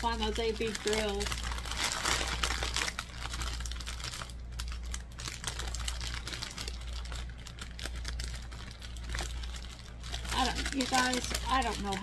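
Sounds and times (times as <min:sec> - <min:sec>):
plastic bag crinkling and clicking: 0:00.0 - 0:12.0.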